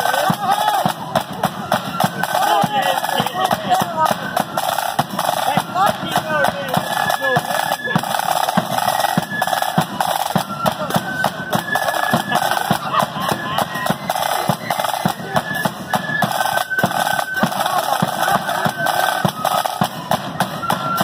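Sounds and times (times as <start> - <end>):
high flute melody: 0.0 - 21.0
snare drums rolling: 0.0 - 21.0.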